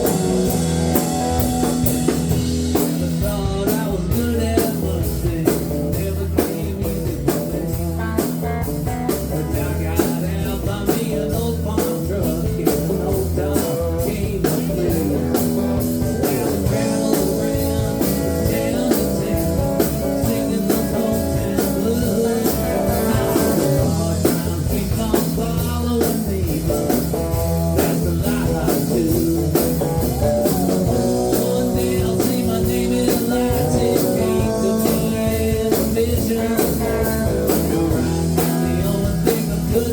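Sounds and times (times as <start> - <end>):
drum kit steady beat: 0.0 - 39.9
guitar: 0.0 - 39.9.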